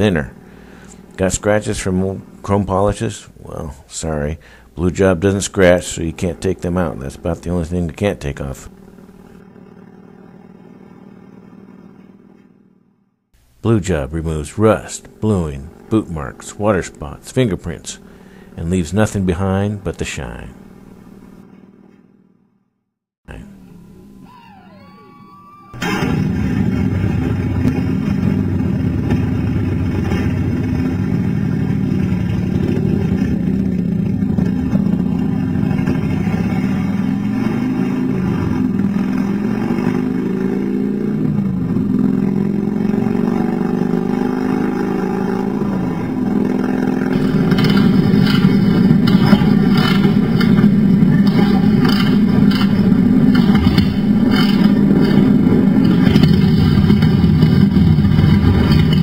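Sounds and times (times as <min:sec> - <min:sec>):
motorcycle engine revving: 0:00.0 - 0:13.3, 0:15.0 - 0:22.3, 0:25.7 - 0:59.0.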